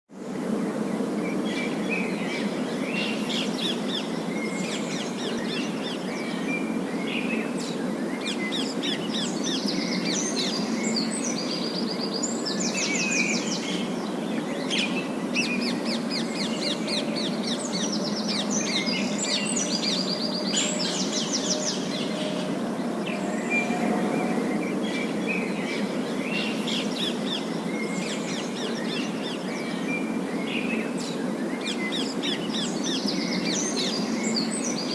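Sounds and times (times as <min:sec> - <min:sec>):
steady low background noise: 0:00.2 - 0:34.9.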